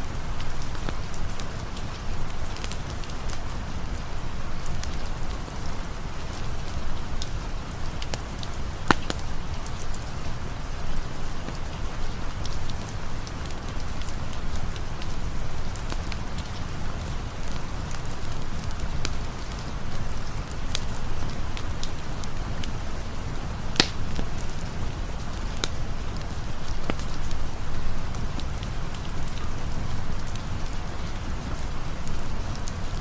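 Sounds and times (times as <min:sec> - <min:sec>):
campfire crackling and snapping: 0:00.0 - 0:33.0
steady rain: 0:00.0 - 0:33.0.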